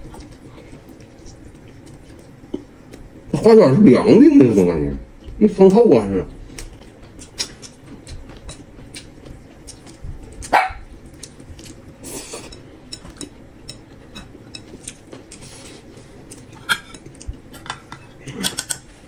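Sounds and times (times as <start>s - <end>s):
chewing: 0.0s - 3.2s, 6.4s - 18.6s.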